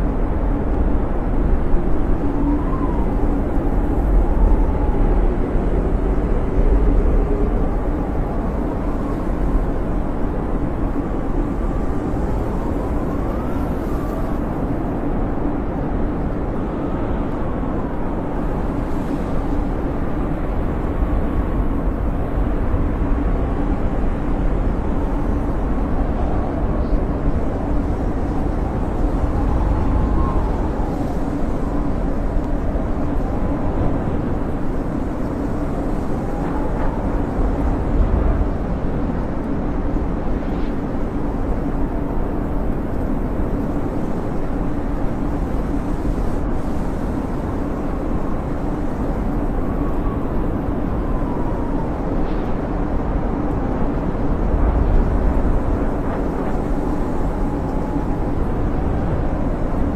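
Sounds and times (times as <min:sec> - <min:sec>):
howling blizzard wind: 0:00.0 - 0:59.9.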